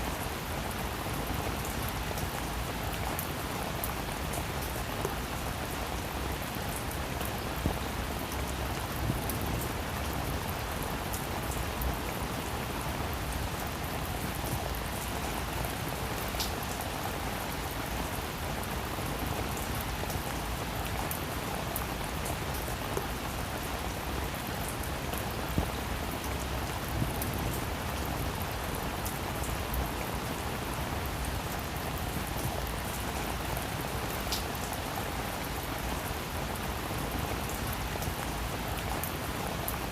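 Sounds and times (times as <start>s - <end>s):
heavy rain: 0.0s - 39.9s
raindrops ticking on a surface: 0.0s - 39.9s.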